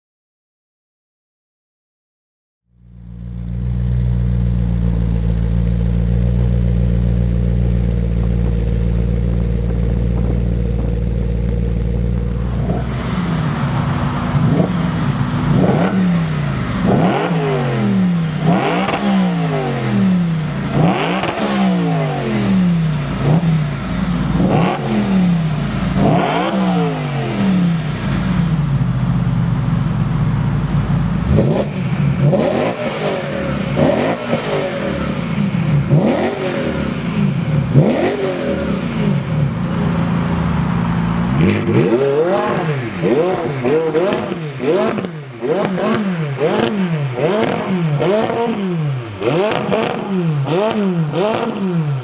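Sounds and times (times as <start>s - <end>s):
car engine idling: 2.7s - 52.0s
engine revving: 3.0s - 29.1s, 30.9s - 52.0s.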